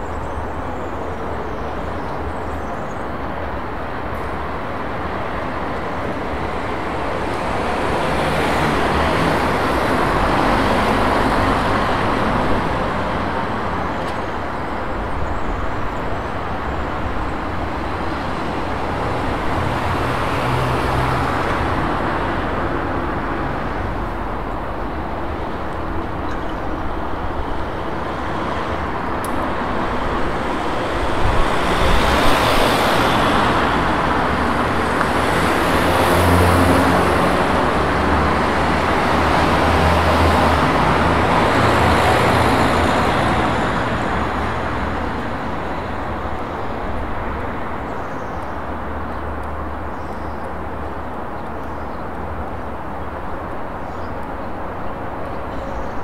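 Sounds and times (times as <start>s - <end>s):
cars passing on street: 0.0s - 56.0s.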